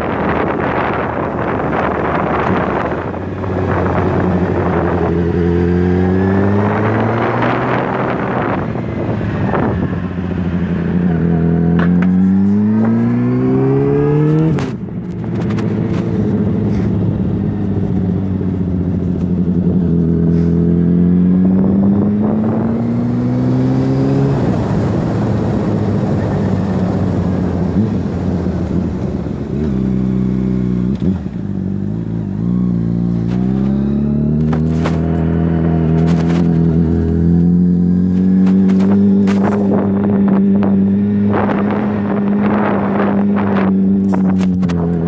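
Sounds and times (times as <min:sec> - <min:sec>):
wind rush: 0:00.0 - 0:29.7, 0:32.9 - 0:45.0
motorcycle engine accelerating: 0:00.0 - 0:45.0.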